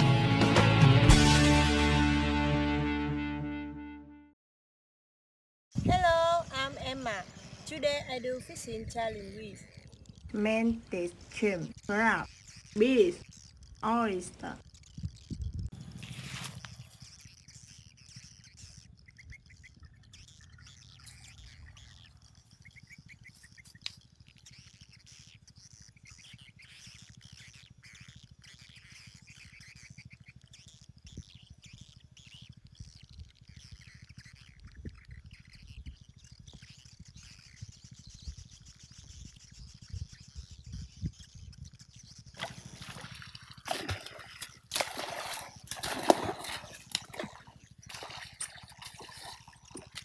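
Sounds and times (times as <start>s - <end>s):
small birds chirping and trilling: 5.8s - 50.0s.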